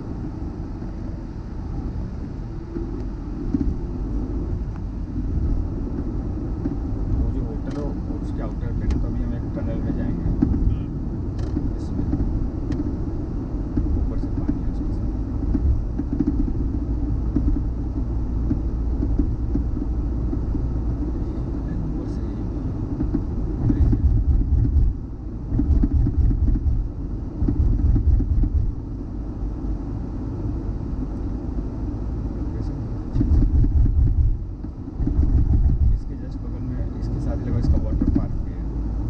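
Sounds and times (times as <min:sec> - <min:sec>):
car interior road rumble: 0:00.0 - 0:39.0.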